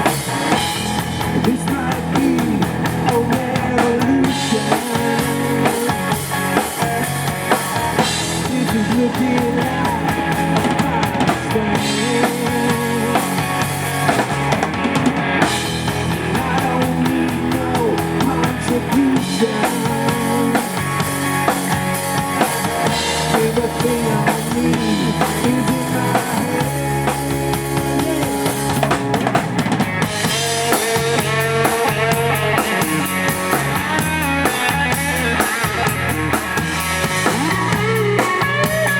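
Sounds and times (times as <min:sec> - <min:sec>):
bass guitar: 0:00.0 - 0:38.9
drum kit beat: 0:00.0 - 0:38.9
electric guitar: 0:00.0 - 0:38.9.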